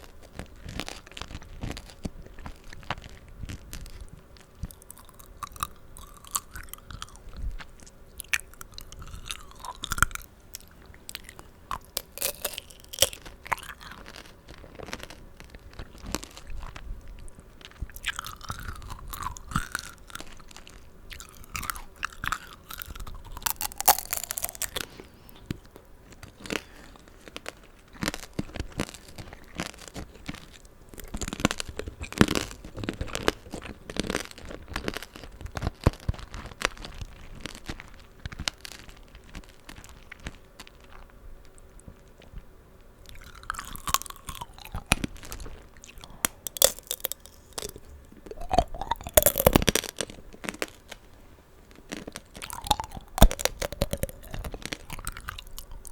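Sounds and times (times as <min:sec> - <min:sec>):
candy shell crunching: 0:00.0 - 0:16.8, 0:17.6 - 0:41.1, 0:43.0 - 0:51.0, 0:51.8 - 0:55.9
wet chewing of fruit: 0:00.0 - 0:37.9, 0:43.0 - 0:50.9, 0:51.8 - 0:55.9.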